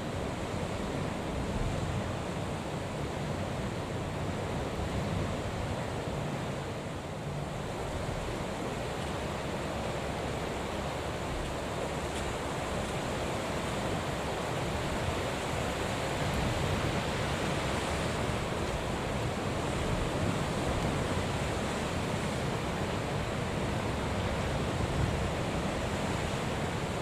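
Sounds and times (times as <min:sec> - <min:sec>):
choppy sea: 0:00.0 - 0:27.0
wind: 0:00.0 - 0:27.0.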